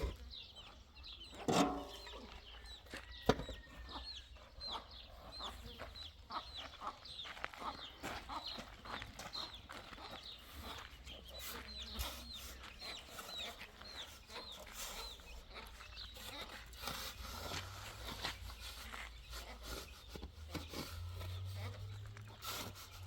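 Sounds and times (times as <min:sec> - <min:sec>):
bird peeping: 0:00.0 - 0:23.0.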